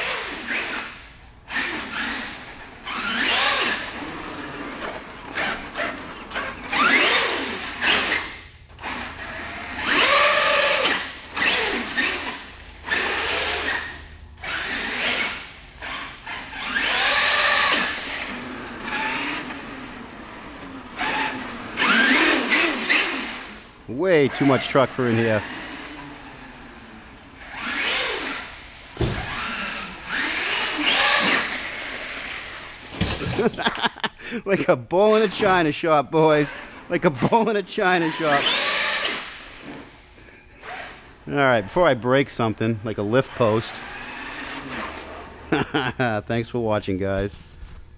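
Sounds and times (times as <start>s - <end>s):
electric motor whining: 0.0s - 34.4s, 36.4s - 41.4s, 43.0s - 45.8s.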